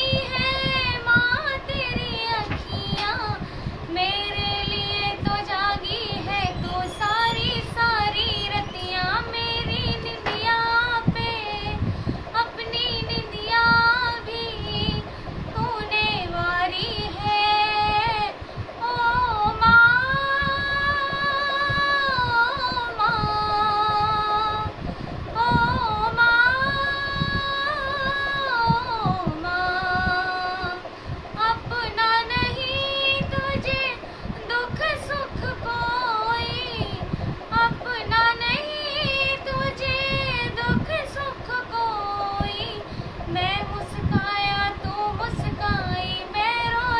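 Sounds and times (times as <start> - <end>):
girl singing solo: 0.0 - 46.9.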